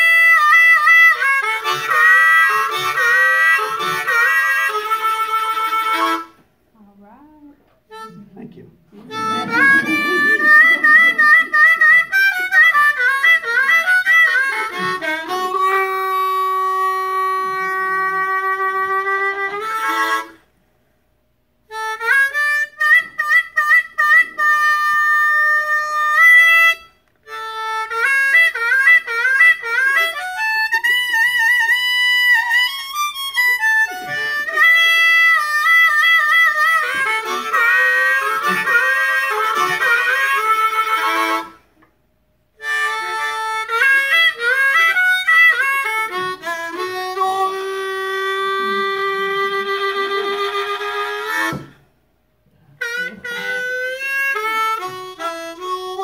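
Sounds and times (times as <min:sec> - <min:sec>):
blues harmonica playing: 0:00.0 - 0:06.7, 0:07.4 - 0:52.0, 0:52.6 - 0:56.0.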